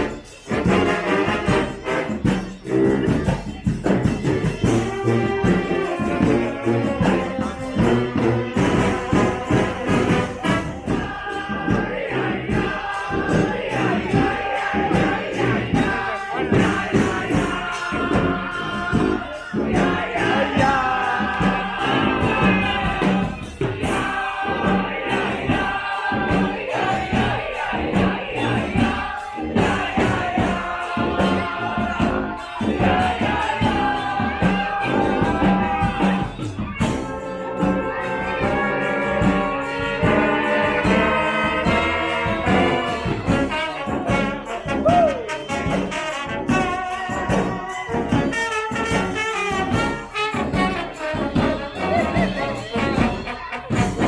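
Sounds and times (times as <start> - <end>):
drums keeping a steady beat: 0.0 - 54.0
horns playing a melody: 0.0 - 54.0.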